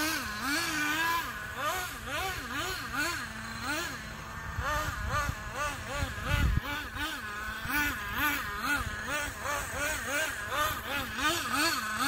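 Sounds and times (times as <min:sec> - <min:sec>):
small engine revving: 0:00.0 - 0:12.0.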